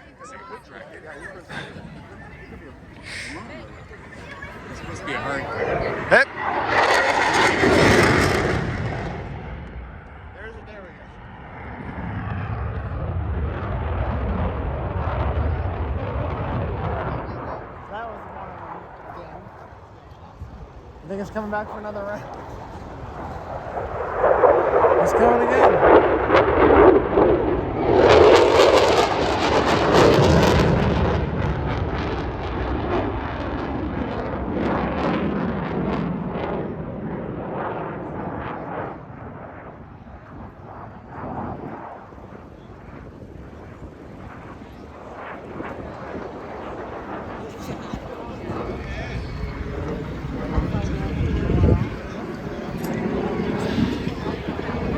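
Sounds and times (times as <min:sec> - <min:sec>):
fighter jet engine roar: 0:00.0 - 0:54.9.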